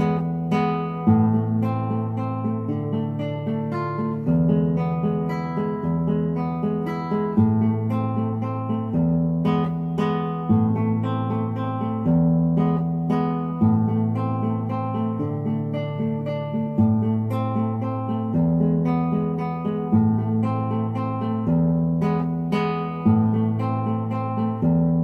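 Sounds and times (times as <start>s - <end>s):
acoustic guitar picking chords: 0.0s - 25.0s.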